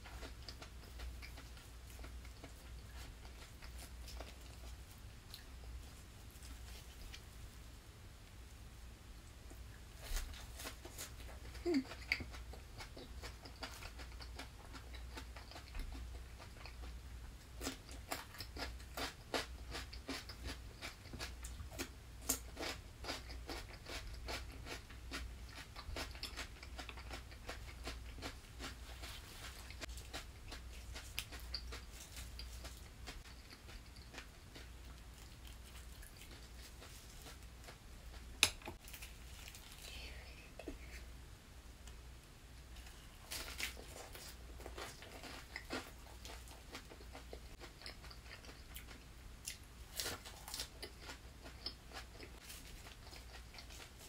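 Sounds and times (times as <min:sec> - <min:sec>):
crunchy chewing: 0:00.0 - 0:07.6, 0:09.4 - 0:41.1, 0:42.8 - 0:54.0.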